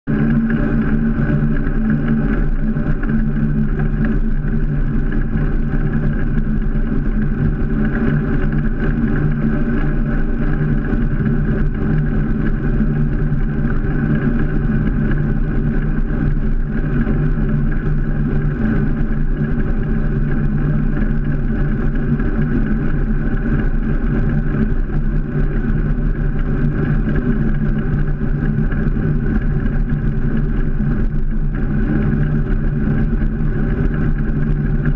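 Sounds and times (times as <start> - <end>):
bike tyre rumble on asphalt: 0.1 - 34.9.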